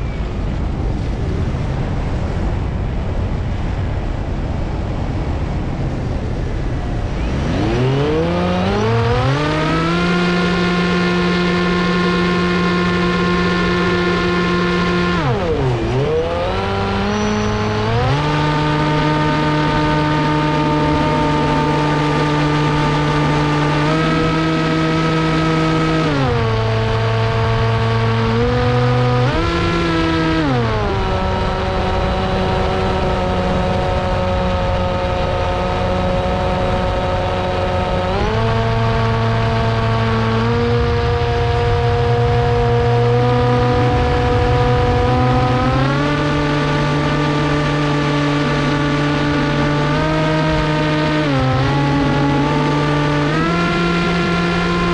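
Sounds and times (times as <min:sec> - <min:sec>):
model plane motor and propeller: 0:07.2 - 0:54.9.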